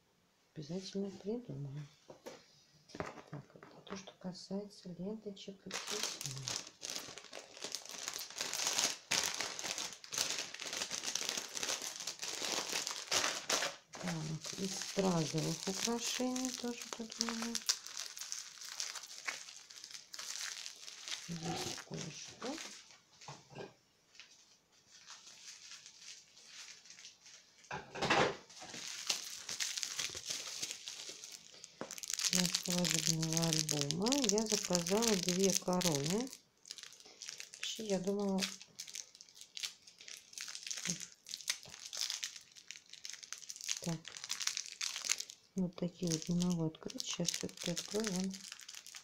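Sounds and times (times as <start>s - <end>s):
plastic packaging crinkling: 2.9s - 4.2s, 5.6s - 23.2s, 24.1s - 27.8s, 28.5s - 49.0s.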